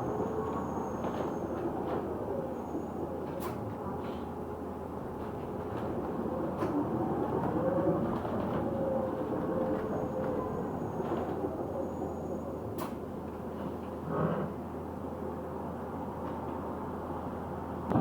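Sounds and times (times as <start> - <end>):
bus drivetrain whine: 0.0 - 18.0.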